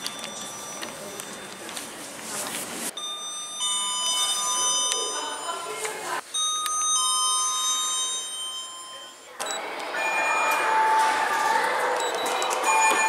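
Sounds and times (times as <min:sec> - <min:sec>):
two-tone lift chime: 0:00.0 - 0:01.7, 0:02.9 - 0:13.0.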